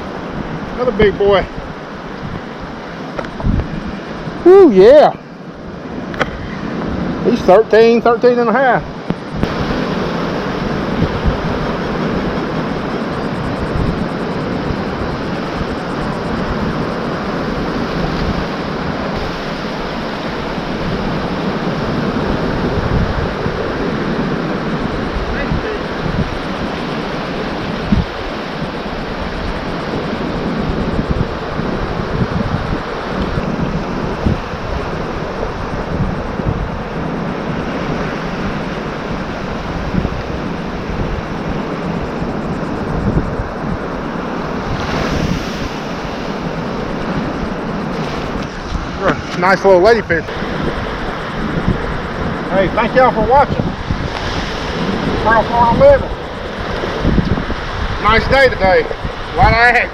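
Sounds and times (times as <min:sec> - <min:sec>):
ocean surf on a beach: 0:00.0 - 0:59.9
wind on microphone: 0:00.0 - 0:59.9.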